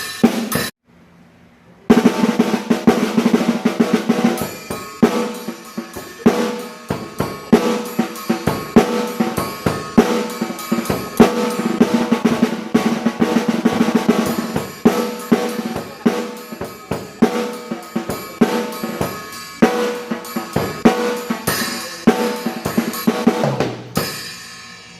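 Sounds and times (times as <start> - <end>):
cymbal crash: 0.0 - 0.7, 1.9 - 24.9
snare drum grooves and rimshots: 0.0 - 0.8, 1.9 - 24.5
hi-hat: 2.6 - 24.9.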